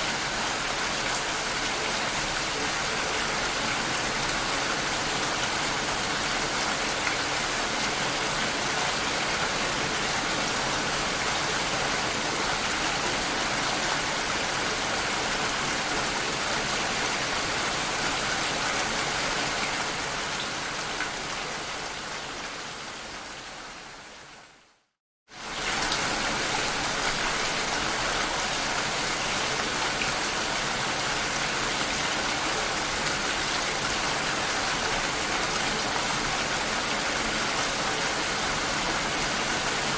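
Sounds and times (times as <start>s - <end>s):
rain through a glass door: 0.0s - 24.4s, 25.3s - 39.9s.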